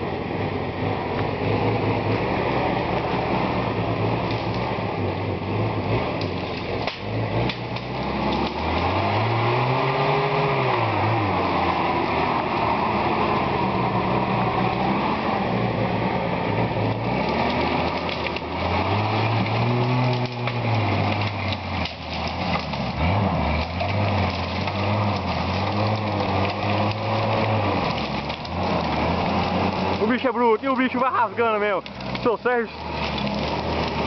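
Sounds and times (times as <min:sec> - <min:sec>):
jeep engine revving: 0:00.0 - 0:34.0
branches cracking and scraping: 0:01.1 - 0:34.0.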